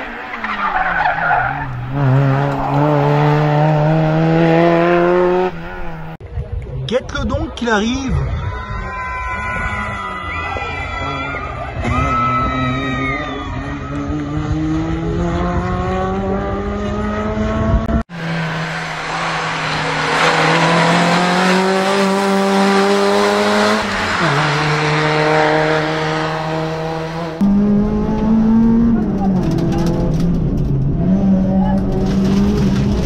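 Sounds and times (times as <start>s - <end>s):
rally car engine accelerating: 0.0s - 6.2s, 10.9s - 33.0s.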